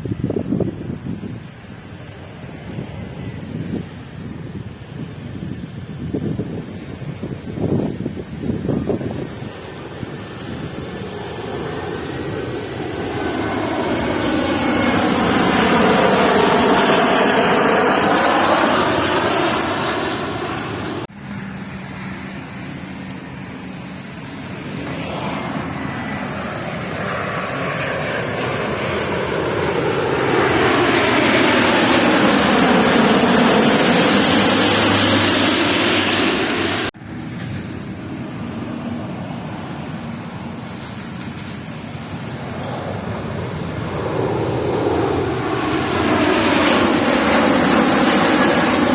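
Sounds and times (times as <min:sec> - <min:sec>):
jet airliners passing overhead: 0:00.0 - 0:48.9.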